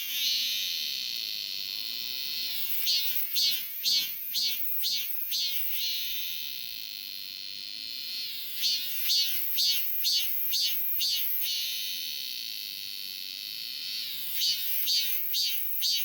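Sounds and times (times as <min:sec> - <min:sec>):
cicada pulsed calls: 0:00.0 - 0:12.6, 0:13.6 - 0:16.0
cicada buzzing: 0:00.0 - 0:16.0.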